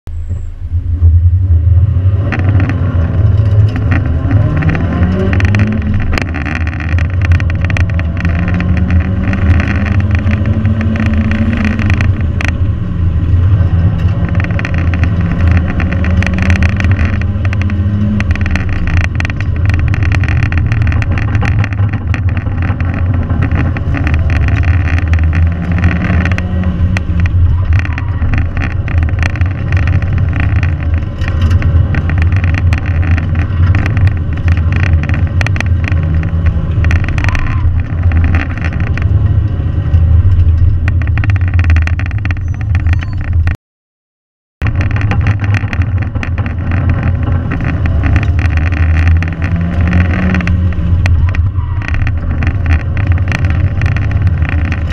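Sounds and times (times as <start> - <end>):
car engine revving: 1.1 - 43.6, 44.6 - 54.9.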